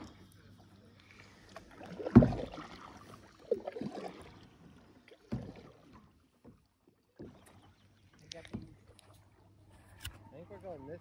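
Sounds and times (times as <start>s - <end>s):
kayak paddle splashing: 0.0s - 9.9s.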